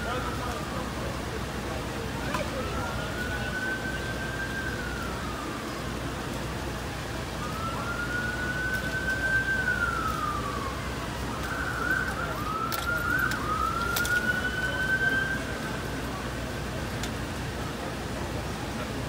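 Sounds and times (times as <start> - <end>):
emergency siren wailing: 0.0 - 19.0
street noise: 0.0 - 19.0.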